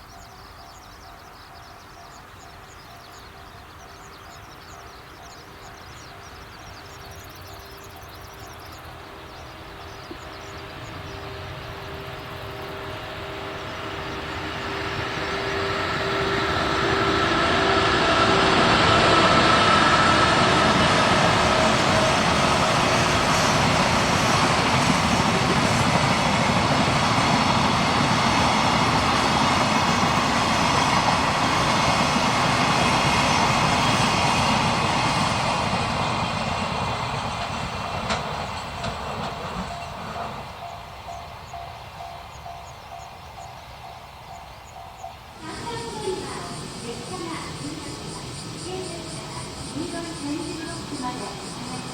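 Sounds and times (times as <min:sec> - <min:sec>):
electric locomotive passing: 0:00.0 - 0:51.9.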